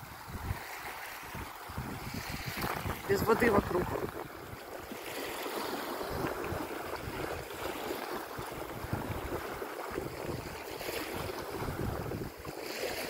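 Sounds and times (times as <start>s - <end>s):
small waves lapping on shore: 0.0s - 13.0s
wind on microphone: 0.0s - 13.0s.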